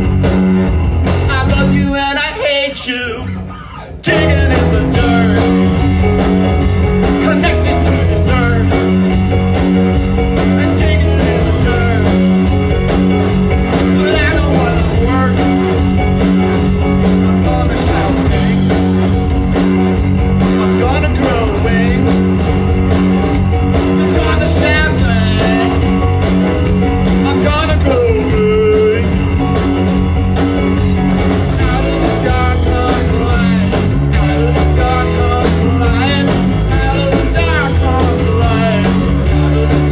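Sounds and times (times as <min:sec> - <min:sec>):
drum kit beat: 0:00.0 - 0:02.4, 0:03.8 - 0:39.9
electric bass: 0:00.0 - 0:39.9
electric guitar: 0:00.0 - 0:39.9
keyboard: 0:00.0 - 0:39.9.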